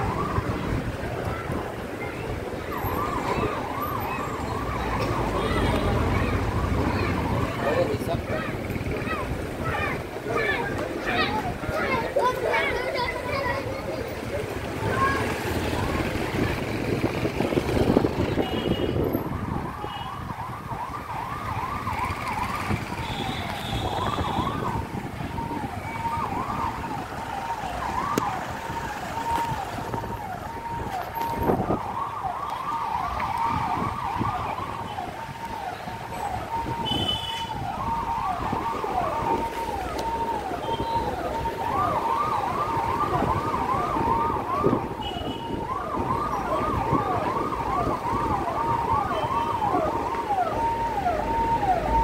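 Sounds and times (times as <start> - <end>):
slow street traffic rumble: 0.0 - 52.0
electronic siren yelping: 2.2 - 12.3, 17.8 - 52.0.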